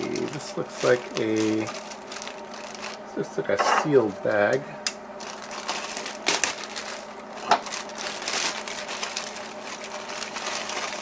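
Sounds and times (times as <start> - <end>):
plastic bag crinkling: 0.0 - 3.1, 5.2 - 11.0.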